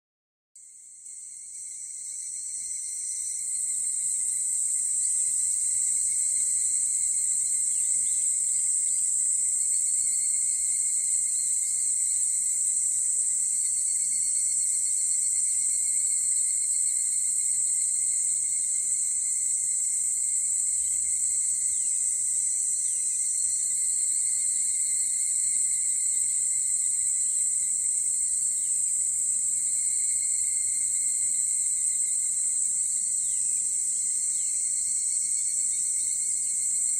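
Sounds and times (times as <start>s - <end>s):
cicadas chorus ringing: 0.8s - 36.9s.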